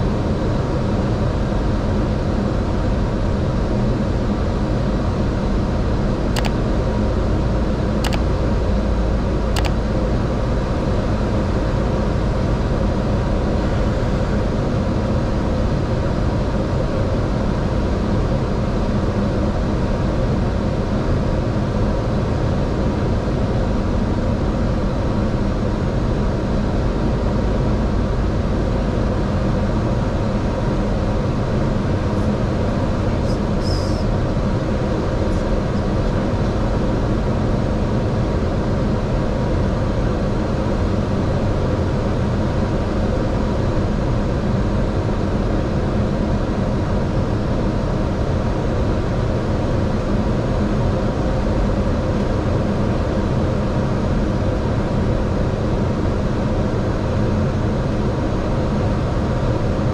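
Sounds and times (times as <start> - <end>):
constant engine hum: 0.0 - 59.9.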